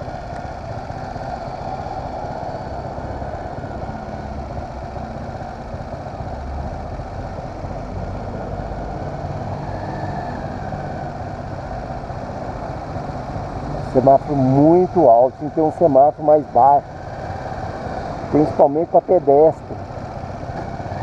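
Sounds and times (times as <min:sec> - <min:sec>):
motorcycle engine idling: 0:00.0 - 0:09.5, 0:10.5 - 0:21.0.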